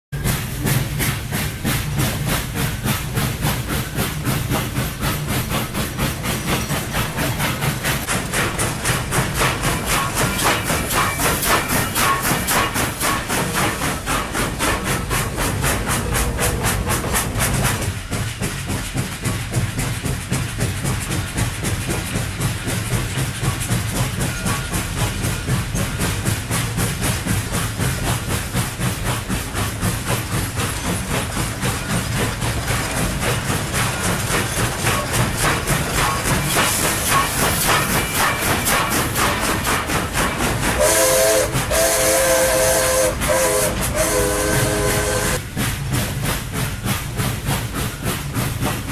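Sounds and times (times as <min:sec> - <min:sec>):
steam locomotive chuffing: 0:00.1 - 0:48.9.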